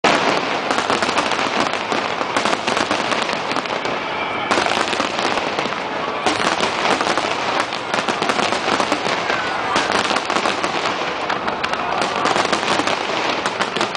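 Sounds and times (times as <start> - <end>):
fireworks bangs and crackling: 0.0 - 13.9.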